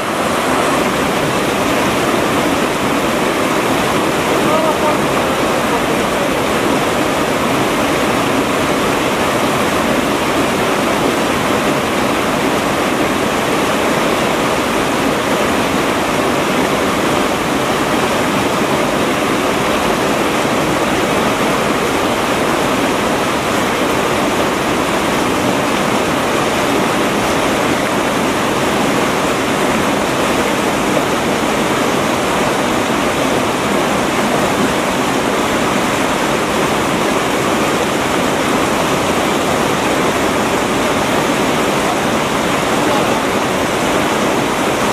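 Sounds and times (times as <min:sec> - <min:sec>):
river rapids rushing: 0:00.0 - 0:44.9.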